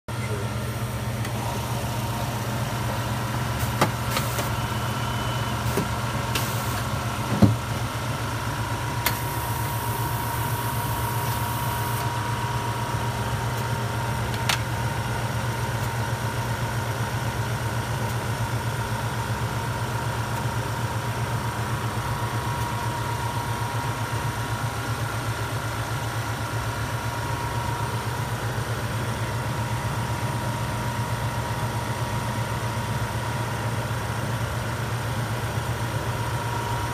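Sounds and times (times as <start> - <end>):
machine humming and whining: 0.1 - 36.9.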